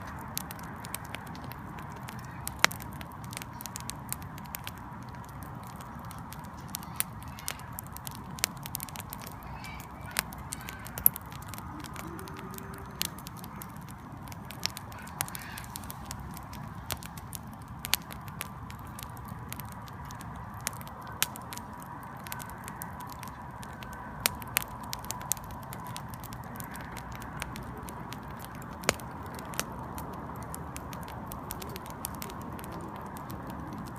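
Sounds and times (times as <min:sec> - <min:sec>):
logs crackling and popping: 0:00.0 - 0:33.9.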